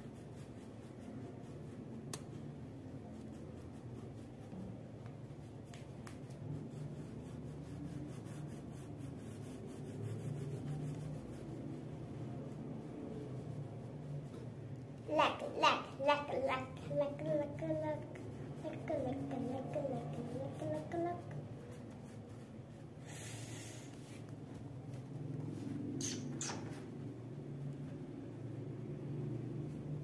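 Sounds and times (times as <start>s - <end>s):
crayon scribbling on paper: 0.0s - 25.7s.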